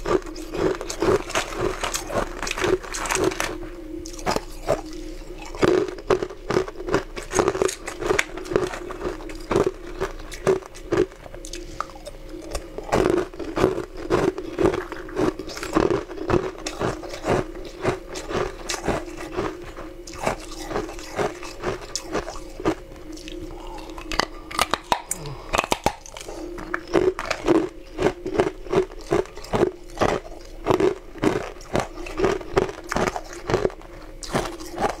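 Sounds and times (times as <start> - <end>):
ice crunching between teeth: 0.0 - 35.0.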